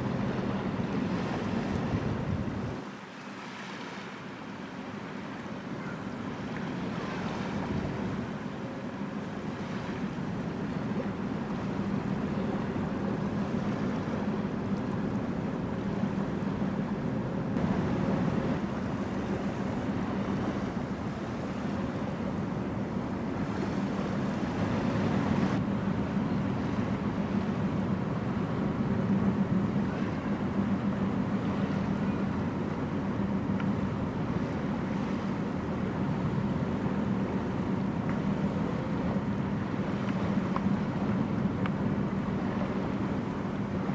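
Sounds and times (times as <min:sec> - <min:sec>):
ship diesel engines droning: 0:00.0 - 0:02.8, 0:04.0 - 0:43.9
wind rumbling on microphone: 0:00.0 - 0:03.0, 0:05.0 - 0:43.9.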